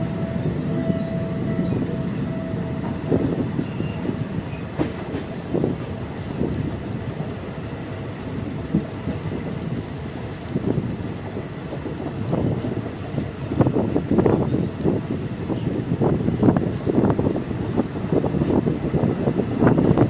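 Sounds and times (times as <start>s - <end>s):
train rumbling on track: 0.0s - 20.0s
wheels clicking over rail joints: 0.0s - 20.0s.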